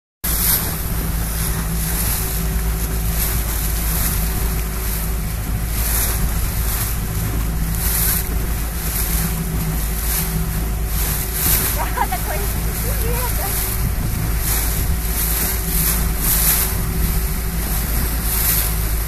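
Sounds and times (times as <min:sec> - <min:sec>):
faint engine hum: 0:00.3 - 0:19.0
water rushing and splashing: 0:00.3 - 0:19.0
wind buffeting microphone: 0:00.3 - 0:19.0.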